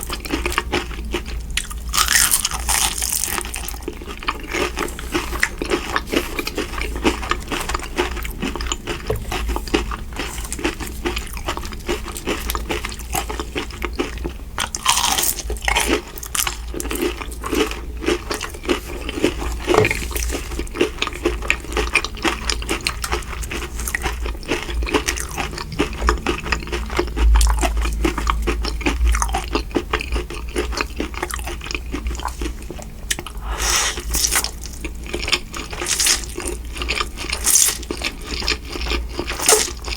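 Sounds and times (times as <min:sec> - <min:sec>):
close chewing and crunchy bites: 0:00.0 - 0:39.9.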